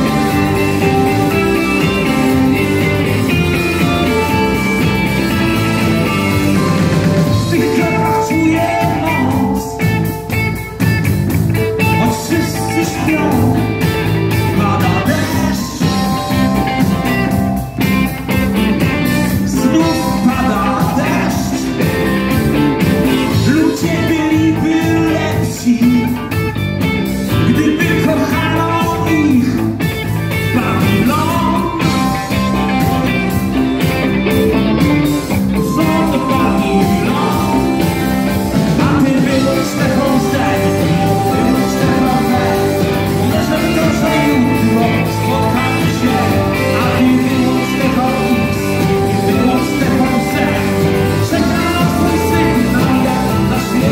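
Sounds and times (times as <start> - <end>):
man singing: 0.0 - 10.3, 11.6 - 17.4, 18.5 - 26.5, 27.3 - 33.3, 35.1 - 53.9
electric guitar: 0.0 - 53.9
steady drum beat: 0.0 - 53.9.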